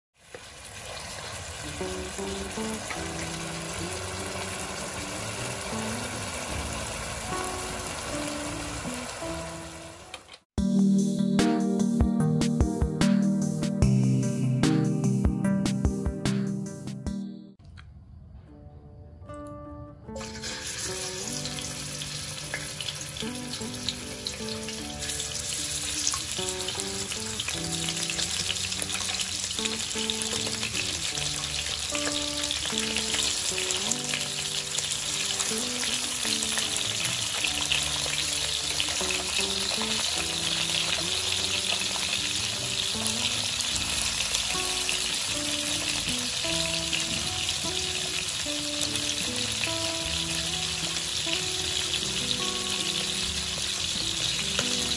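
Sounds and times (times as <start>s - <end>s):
ribs sizzling in hot oil: 0.2s - 10.5s, 20.2s - 54.9s
background music: 1.6s - 17.6s, 18.3s - 54.9s.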